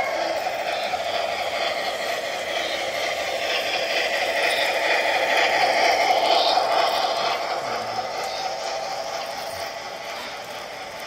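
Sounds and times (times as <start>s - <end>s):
model train whirring and rattling: 0.0s - 11.0s.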